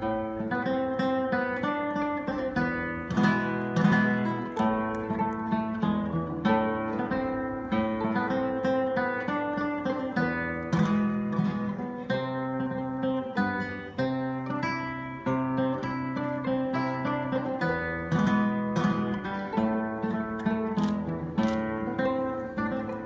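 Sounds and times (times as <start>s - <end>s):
acoustic guitar playing chords: 0.0s - 23.0s.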